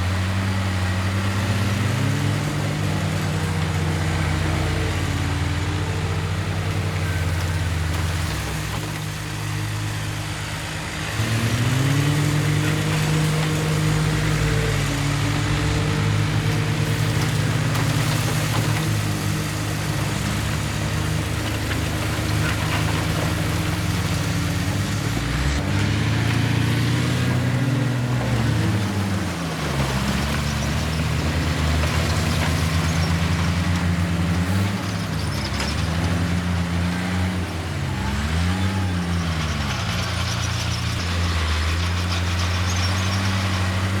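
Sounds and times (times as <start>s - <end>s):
heavy diesel engine under load: 0.0s - 44.0s.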